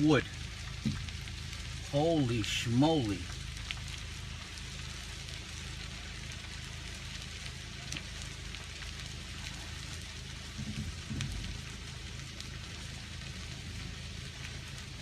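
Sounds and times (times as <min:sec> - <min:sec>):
burning wood popping: 0:00.0 - 0:15.0
fire crackling and hissing: 0:00.0 - 0:15.0
low fire rumble: 0:00.0 - 0:15.0.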